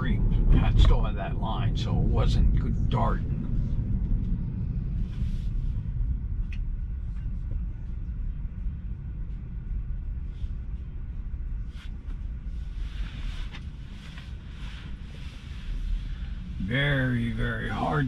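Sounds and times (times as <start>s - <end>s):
road and tyre rumble: 0.0s - 18.0s.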